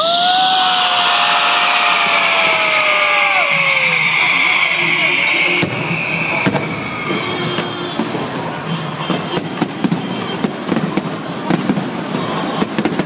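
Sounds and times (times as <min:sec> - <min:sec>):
fireworks crackling and banging: 0:01.8 - 0:13.0.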